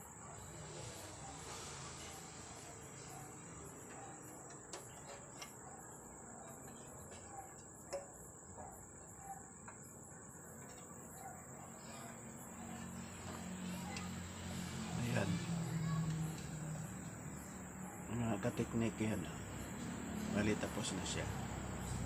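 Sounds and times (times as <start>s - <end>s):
faint crickets chirping: 0.0s - 22.0s.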